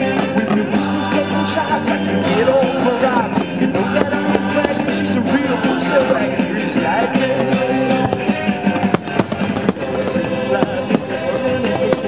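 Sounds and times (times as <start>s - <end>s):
song with guitar and singing: 0.0s - 12.0s.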